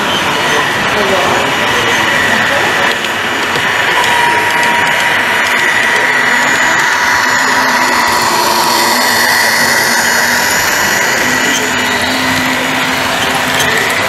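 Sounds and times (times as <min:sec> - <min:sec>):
model train whine: 0:00.0 - 0:14.0.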